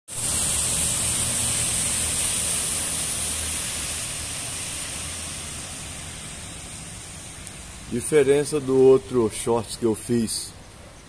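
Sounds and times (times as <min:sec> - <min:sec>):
steady rain falling: 0:00.1 - 0:10.1
traffic on wet street: 0:00.1 - 0:11.0.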